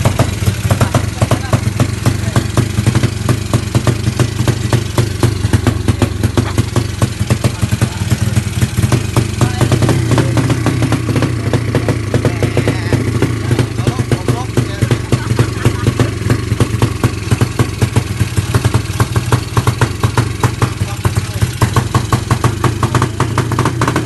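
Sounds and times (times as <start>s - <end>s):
scooter engine idling: 0.0s - 24.0s.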